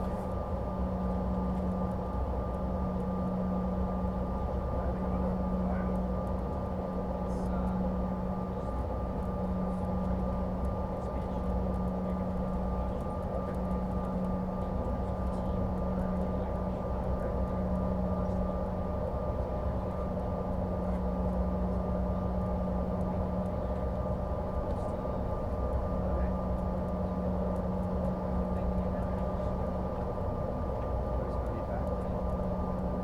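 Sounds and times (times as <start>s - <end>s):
jet cabin drone: 0.0s - 33.0s.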